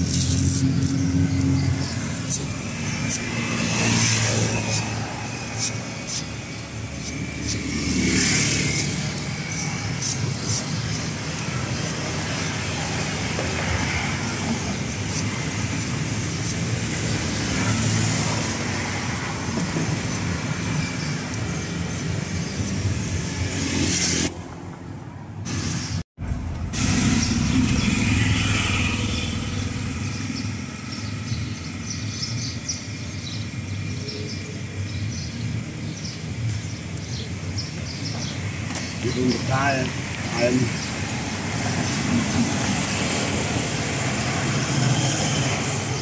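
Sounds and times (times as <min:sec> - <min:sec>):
street traffic: 0:00.0 - 0:46.0.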